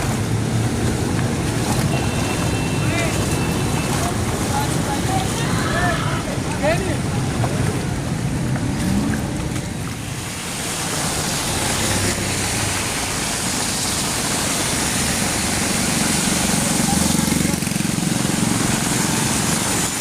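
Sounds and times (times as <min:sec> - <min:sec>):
heavy rain on a street: 0:00.0 - 0:20.0
road traffic rumble: 0:00.0 - 0:20.0.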